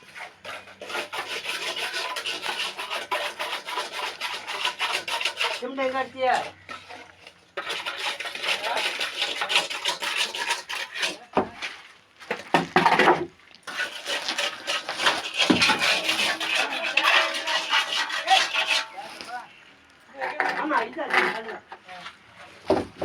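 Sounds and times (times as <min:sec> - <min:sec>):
trowel scraping mortar: 0:00.0 - 0:19.4.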